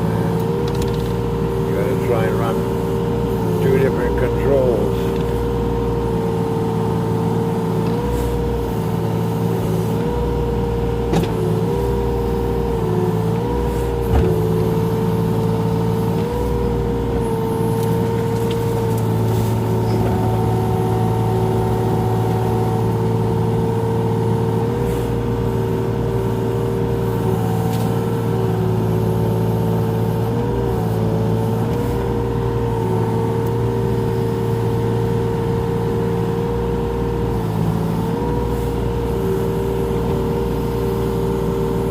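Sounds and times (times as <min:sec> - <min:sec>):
mini excavator engine running: 0:00.0 - 0:41.9.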